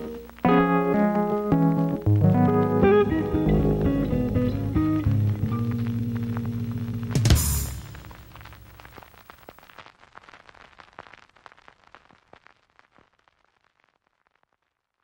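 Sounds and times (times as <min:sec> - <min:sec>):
faint crackling clicks: 0:00.0 - 0:07.2, 0:07.9 - 0:13.2.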